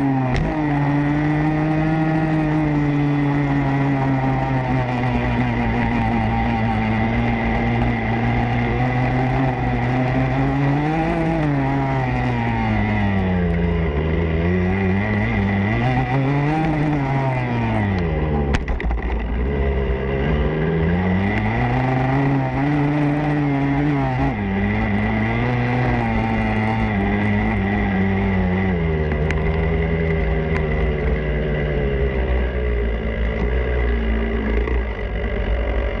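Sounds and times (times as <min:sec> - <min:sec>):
motorbike engine revving: 0:00.0 - 0:36.0.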